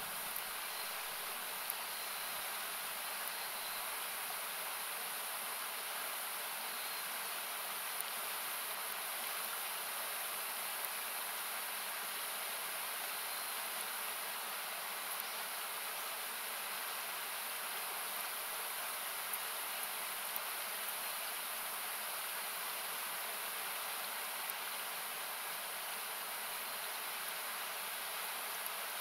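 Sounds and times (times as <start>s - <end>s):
faint campfire crackles: 0.0s - 29.0s
river hissing: 0.0s - 29.0s.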